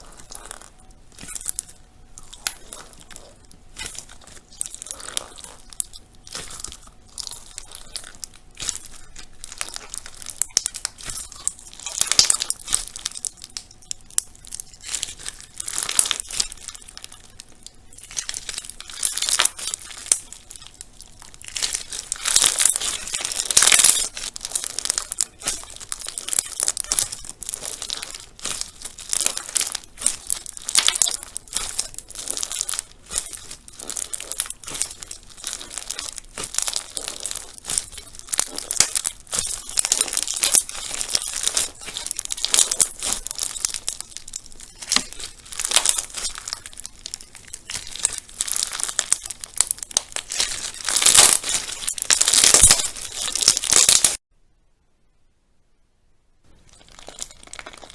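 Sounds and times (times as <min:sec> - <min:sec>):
slime crackling and popping: 0:00.0 - 0:54.2, 0:56.5 - 0:57.9.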